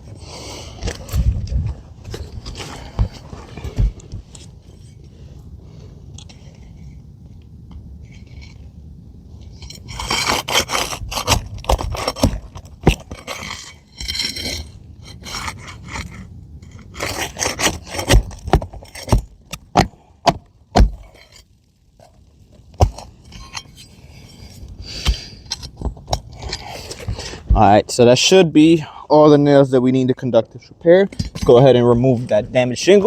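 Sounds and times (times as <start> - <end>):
tool scraping under shingles: 0.0 - 5.3, 6.2 - 28.0, 30.8 - 33.0.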